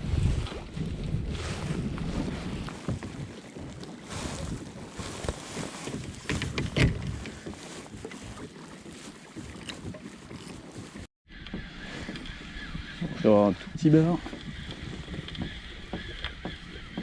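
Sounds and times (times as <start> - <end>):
water splashing against kayak: 0.0 - 17.0
wind on microphone: 0.0 - 17.0.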